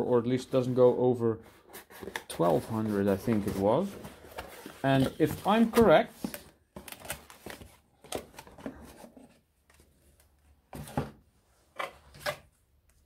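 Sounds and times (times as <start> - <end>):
cardboard rustling and scraping: 0.5 - 12.5.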